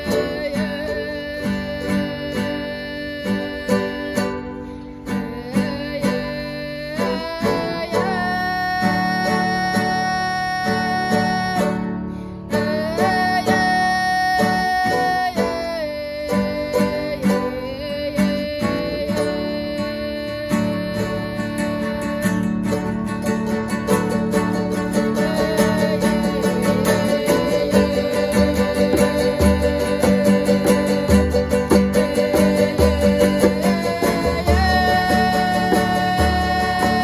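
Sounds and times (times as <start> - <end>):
small guitar-like instrument: 0.0 - 37.0
strummed acoustic guitar: 0.0 - 37.0.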